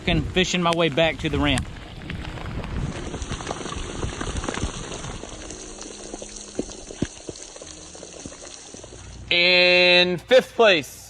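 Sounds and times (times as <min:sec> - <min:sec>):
rain falling: 0:00.0 - 0:09.9.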